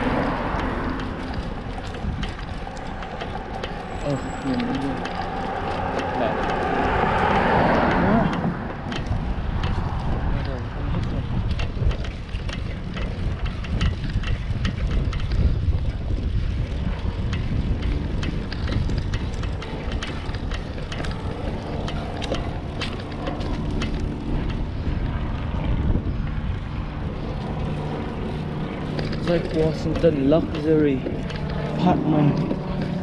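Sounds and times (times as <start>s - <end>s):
bike clicks and rattles: 0.0s - 33.0s
wind buffeting microphone: 0.0s - 33.0s.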